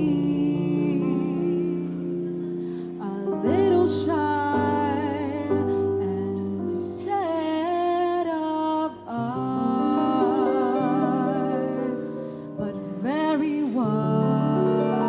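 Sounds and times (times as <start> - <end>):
piano chords: 0.0 - 15.0
woman singing jazz ballad: 0.0 - 15.0.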